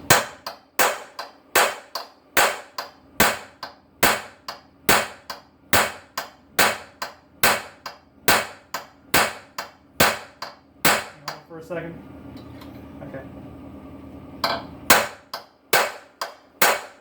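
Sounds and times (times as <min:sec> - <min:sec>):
hammer striking metal punch: 0:00.0 - 0:11.5, 0:14.4 - 0:17.0.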